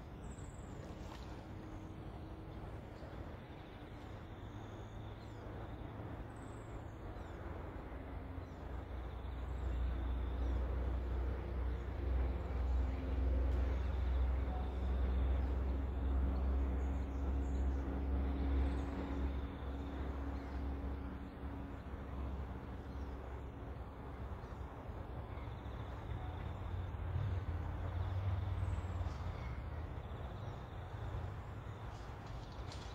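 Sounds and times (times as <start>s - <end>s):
low engine drone: 0.0s - 32.9s.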